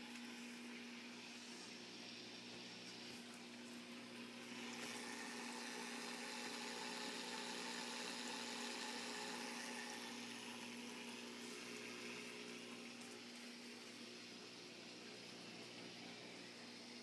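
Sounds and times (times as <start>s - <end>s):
pump electric hum: 0.0s - 17.0s.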